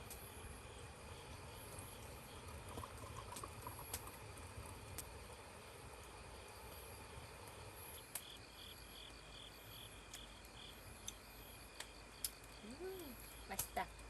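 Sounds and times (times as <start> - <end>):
faint insects singing: 0.0 - 14.0.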